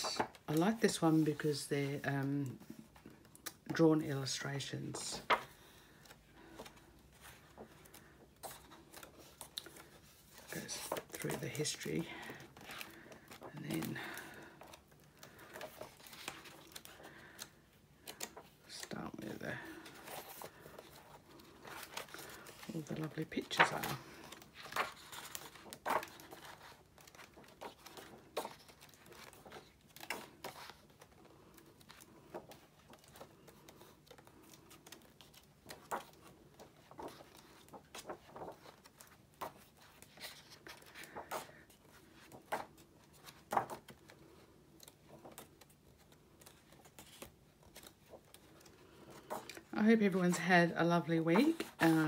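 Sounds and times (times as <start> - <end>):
book pages turning: 0.0 - 52.0.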